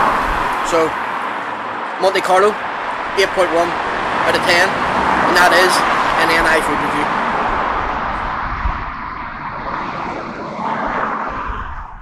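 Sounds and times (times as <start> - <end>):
car passing on street: 0.0 - 12.0.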